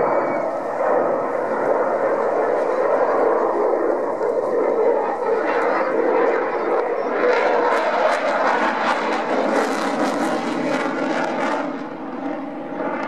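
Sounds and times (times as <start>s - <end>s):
jet engine roar with crackle: 0.0s - 13.0s.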